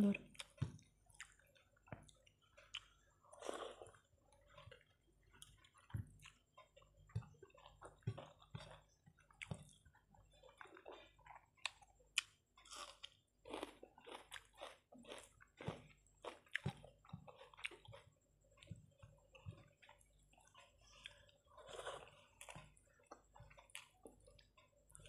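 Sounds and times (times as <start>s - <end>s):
wet chewing and lip smacks: 0.3s - 25.0s.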